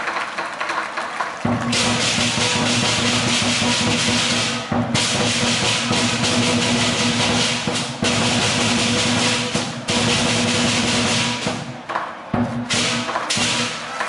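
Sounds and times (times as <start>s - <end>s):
big drum beating rapidly: 1.4s - 14.0s
cymbals clashing: 1.5s - 14.0s.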